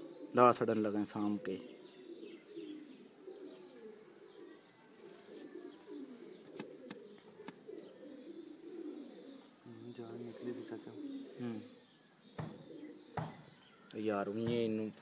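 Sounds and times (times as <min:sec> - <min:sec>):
pigeons cooing: 0:00.0 - 0:13.7.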